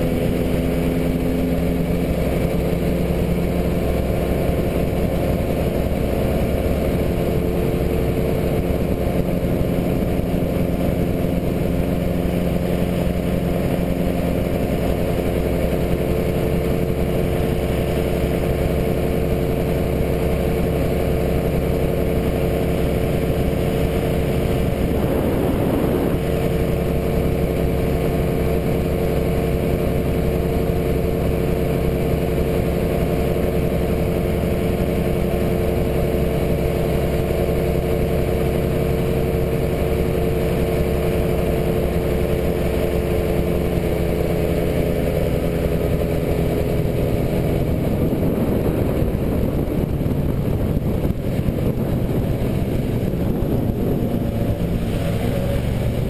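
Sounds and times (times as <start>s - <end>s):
boat motor droning: 0.0s - 56.0s.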